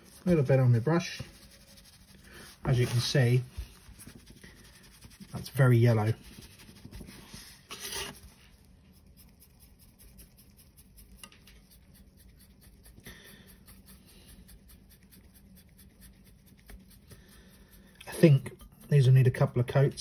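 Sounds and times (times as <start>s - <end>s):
stiff brush strokes on metal: 0.0s - 20.0s.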